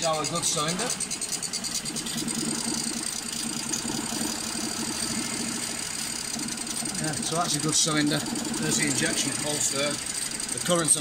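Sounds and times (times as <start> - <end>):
engine idling roughly and misfiring: 0.0 - 11.0.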